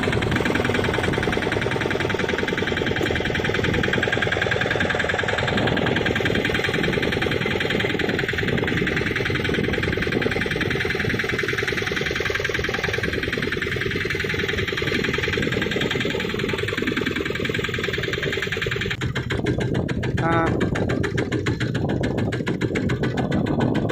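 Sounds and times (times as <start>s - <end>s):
boat engine chugging: 0.0s - 23.9s.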